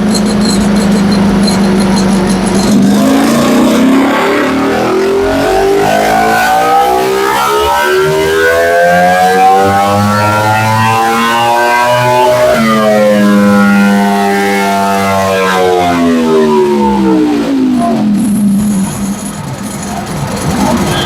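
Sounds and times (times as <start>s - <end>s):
motorcycle engine revving on dyno: 0.0s - 19.3s.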